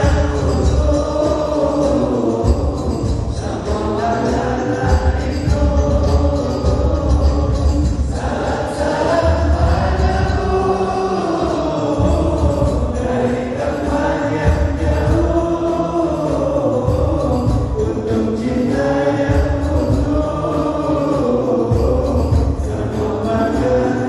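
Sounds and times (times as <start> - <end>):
low accompaniment: 0.0 - 24.0
man singing into a microphone: 0.0 - 24.0.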